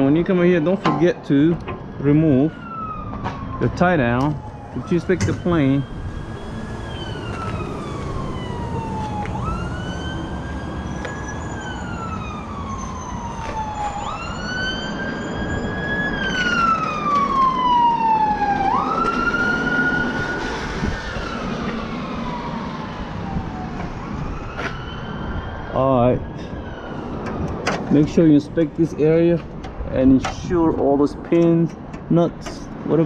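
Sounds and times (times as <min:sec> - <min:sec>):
siren wailing: 0:01.4 - 0:29.4.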